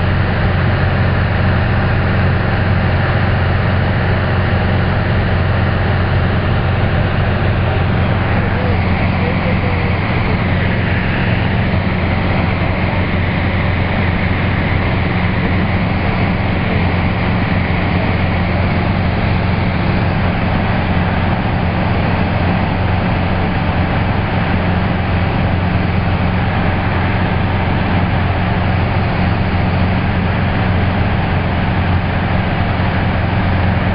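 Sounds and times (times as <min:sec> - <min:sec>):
light aircraft engine drone: 0:00.0 - 0:33.9.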